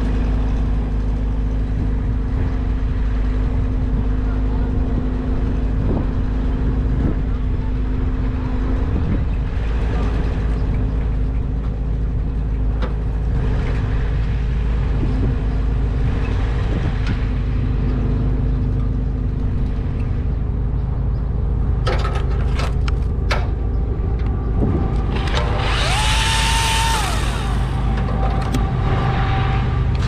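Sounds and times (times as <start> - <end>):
engine rumbling: 0.0 - 30.0.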